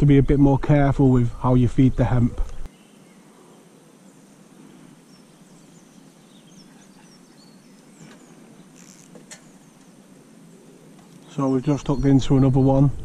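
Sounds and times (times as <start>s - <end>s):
small birds chirping: 0.0s - 13.0s
soft steady background hiss: 0.0s - 13.0s.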